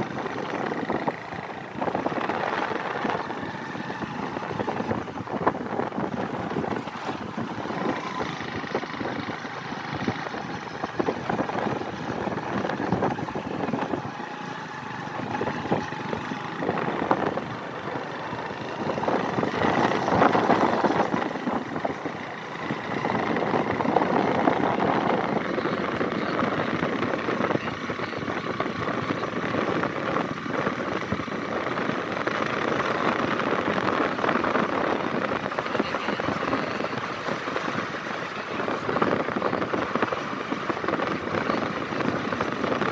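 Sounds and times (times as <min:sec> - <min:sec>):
road and wind noise: 0:00.0 - 0:42.9
small motorcycle engine running: 0:00.0 - 0:42.9.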